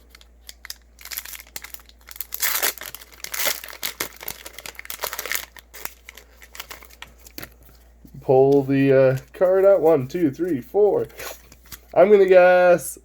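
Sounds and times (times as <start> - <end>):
foil wrapper crinkling: 0.0 - 12.2.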